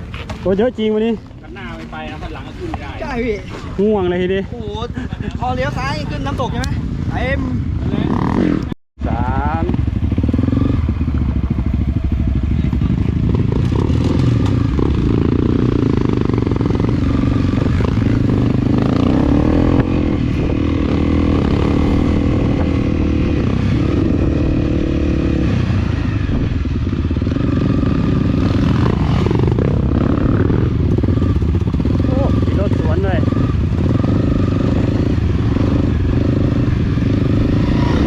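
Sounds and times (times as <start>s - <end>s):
dirt bike engine at low revs: 7.0s - 38.0s.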